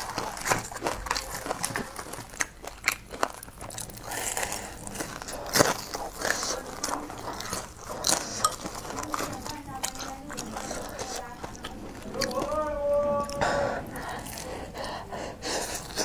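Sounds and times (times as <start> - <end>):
crunching and chewing fried food: 0.0 - 16.0.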